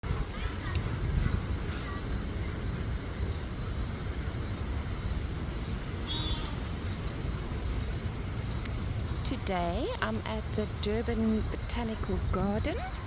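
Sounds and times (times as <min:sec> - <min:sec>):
steady low rumble: 0:00.0 - 0:13.0
small birds chirping: 0:00.1 - 0:13.0.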